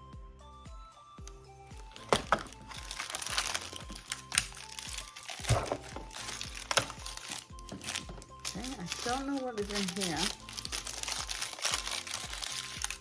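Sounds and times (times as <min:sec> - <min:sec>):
background music: 0:00.0 - 0:13.0
plastic packaging crinkling: 0:01.8 - 0:13.0.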